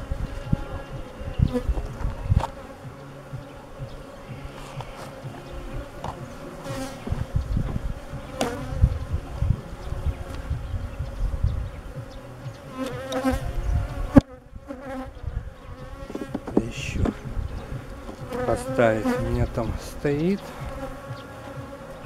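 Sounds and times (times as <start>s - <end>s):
honey bees buzzing: 0.0s - 22.0s
low rumbling on microphone: 0.0s - 22.0s.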